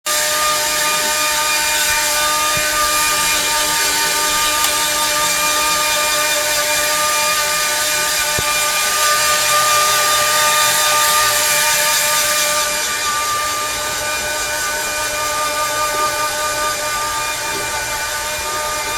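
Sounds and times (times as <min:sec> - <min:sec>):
blow dryer running: 0:00.0 - 0:18.9.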